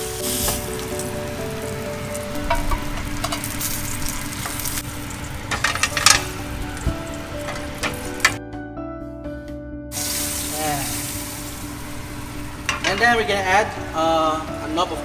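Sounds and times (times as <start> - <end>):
oil and fat sizzling in a pan: 0.0 - 8.4, 9.9 - 15.0.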